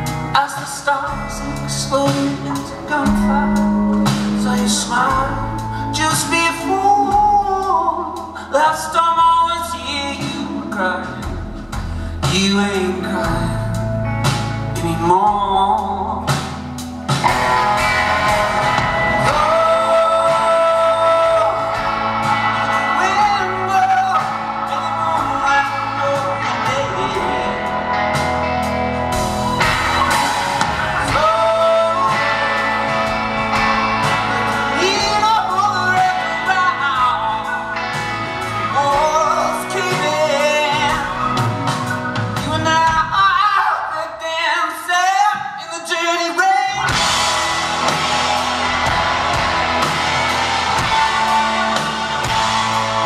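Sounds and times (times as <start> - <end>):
melodic lead guitar lines: 0.0 - 43.4, 46.6 - 53.0
live rock band playing: 0.0 - 53.0.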